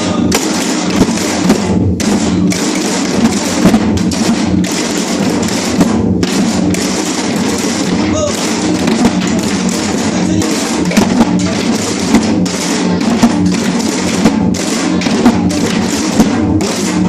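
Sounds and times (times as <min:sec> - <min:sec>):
drums and gongs playing: 0:00.0 - 0:17.0.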